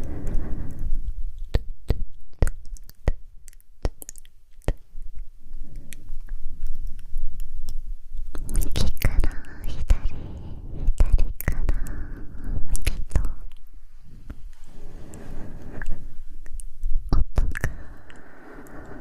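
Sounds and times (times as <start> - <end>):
soft low rustling: 0.0 - 19.0.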